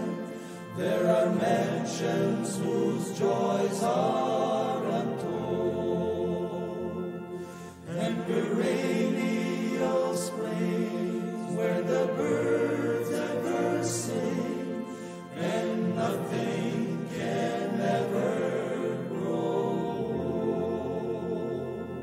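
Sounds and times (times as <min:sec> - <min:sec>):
male choir singing in harmony: 0:00.0 - 0:22.0.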